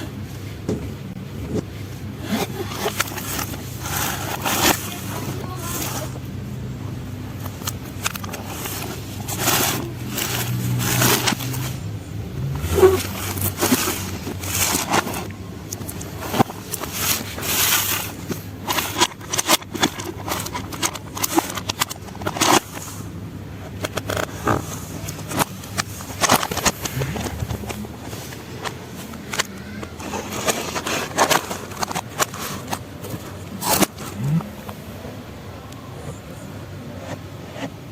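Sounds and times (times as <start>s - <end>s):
low steady hum: 0.0s - 37.9s
toy trucks scraping and clattering: 0.0s - 37.9s.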